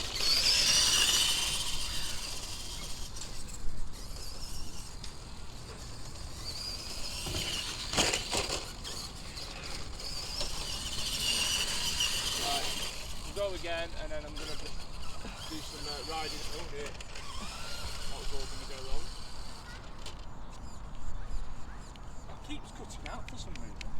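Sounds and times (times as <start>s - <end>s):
electric motor whining: 0.0s - 21.8s.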